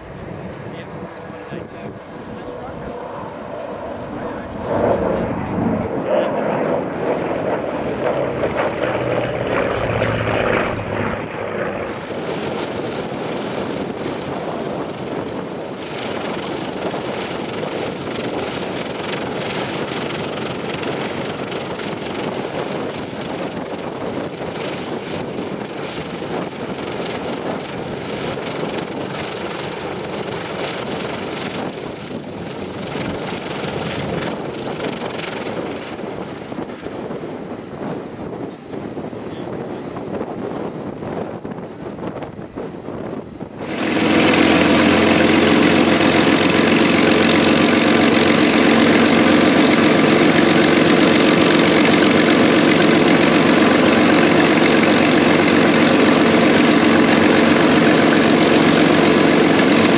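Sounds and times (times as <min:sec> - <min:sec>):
aircraft engines and propellers: 0:00.0 - 0:59.9
wind on microphone: 0:00.0 - 0:59.9.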